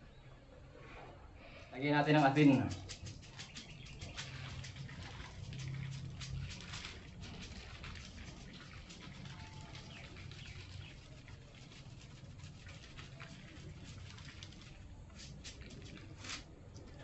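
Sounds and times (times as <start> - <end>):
salt grains pattering: 2.1 - 17.0.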